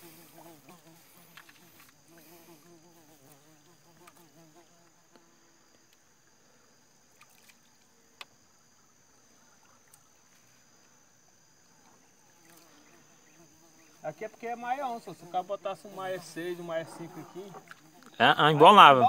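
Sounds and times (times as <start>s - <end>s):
high insect whine: 0.0s - 19.0s.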